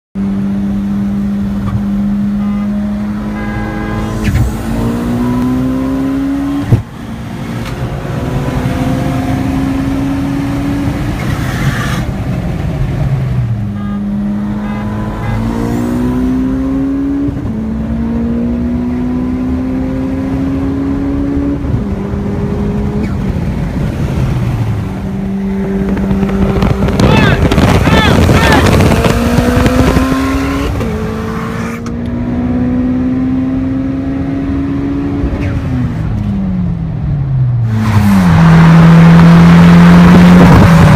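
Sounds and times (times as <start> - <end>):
car engines accelerating: 0.2 - 40.9.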